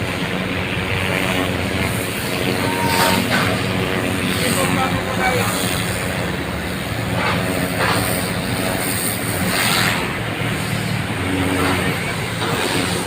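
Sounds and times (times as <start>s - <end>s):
water hose jet on pavement: 0.0s - 13.0s.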